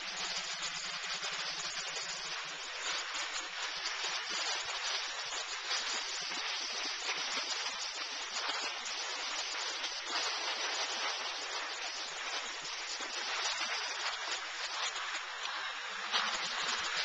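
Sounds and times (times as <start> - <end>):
skis sliding on slushy snow: 0.0 - 17.0.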